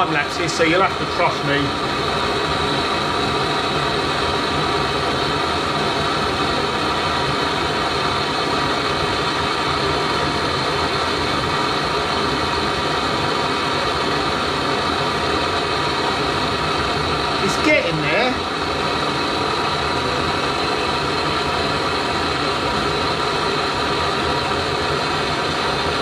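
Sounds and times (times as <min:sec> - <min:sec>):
blowtorch hissing: 0:00.0 - 0:26.0.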